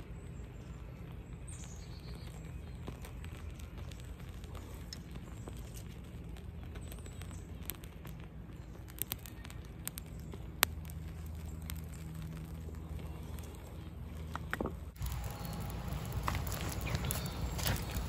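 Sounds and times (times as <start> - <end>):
fire crackling and popping: 0.0 - 18.0
low steady rumble: 0.0 - 18.0.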